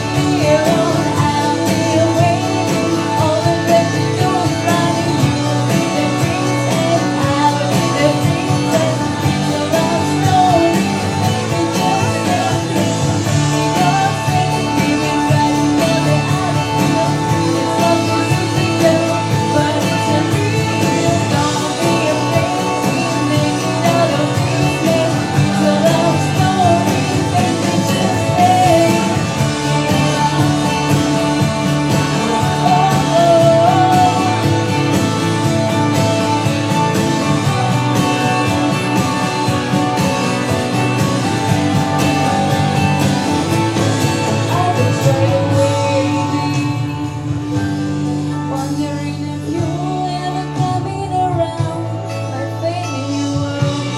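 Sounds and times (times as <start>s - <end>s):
voices singing: 0.0s - 47.5s
guitar accompaniment: 0.0s - 53.9s.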